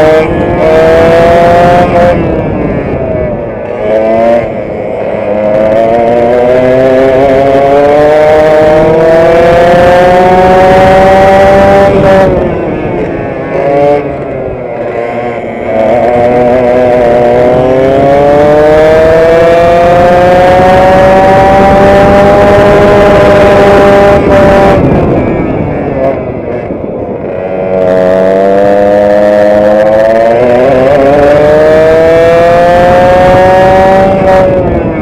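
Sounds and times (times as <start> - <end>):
kart engine at full throttle: 0.0 - 35.0.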